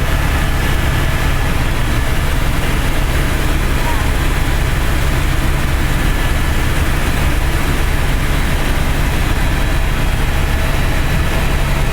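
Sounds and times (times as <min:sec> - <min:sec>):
helicopter rotor and engine drone: 0:00.0 - 0:11.9.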